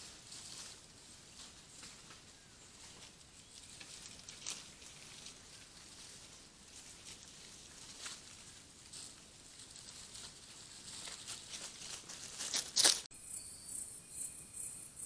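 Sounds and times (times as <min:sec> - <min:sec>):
small ticks and rustles: 0:00.0 - 0:13.1
faint outdoor hiss: 0:00.0 - 0:15.0.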